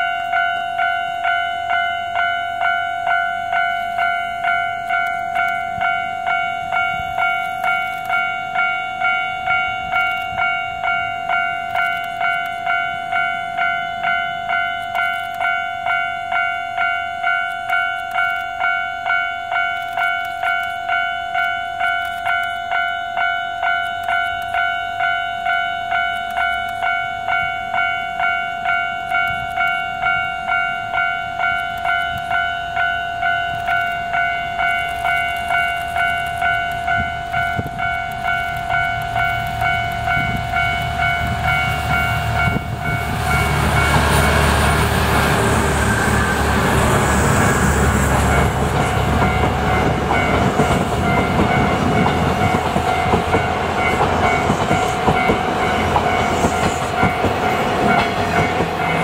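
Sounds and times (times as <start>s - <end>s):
diesel locomotive engines: 0.0s - 59.0s
train wheels on rails: 0.0s - 59.0s.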